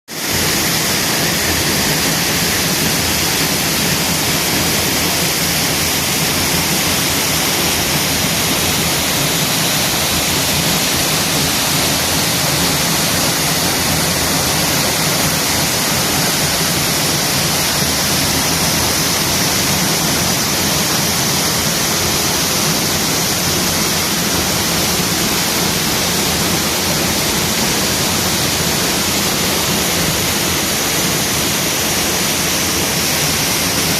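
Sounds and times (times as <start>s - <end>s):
waterfall rushing and crashing: 0.1s - 33.9s.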